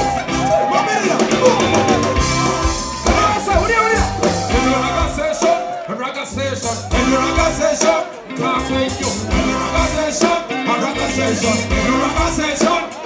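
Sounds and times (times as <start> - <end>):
drums and bass beat: 0.0 - 13.0
person singing into microphone: 0.5 - 13.0.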